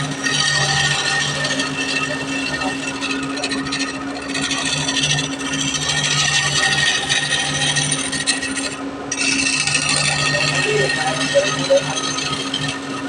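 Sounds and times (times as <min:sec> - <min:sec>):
power tool sanding wood: 0:00.0 - 0:13.0.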